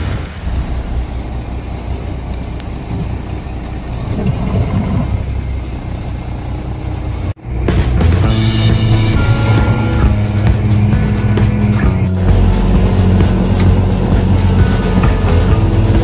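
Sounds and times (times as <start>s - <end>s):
boat engine humming: 0.0s - 16.0s
sea noise: 0.0s - 16.0s
wind: 0.0s - 16.0s.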